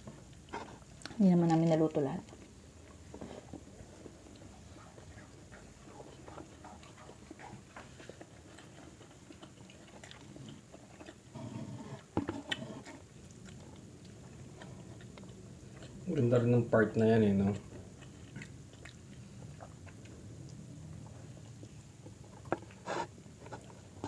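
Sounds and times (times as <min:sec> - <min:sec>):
person chewing food: 0:00.0 - 0:01.6, 0:02.2 - 0:24.0.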